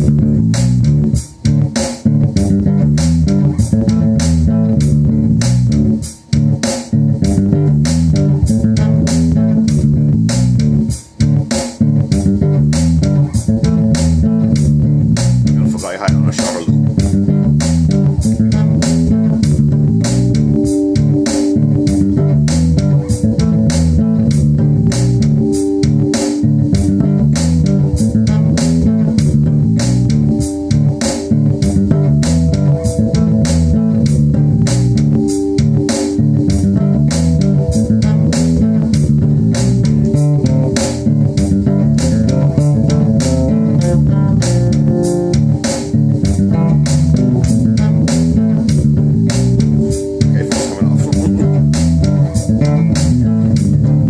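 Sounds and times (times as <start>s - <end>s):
drum beat backing track: 0.0s - 54.0s
electric bass guitar: 0.0s - 54.0s.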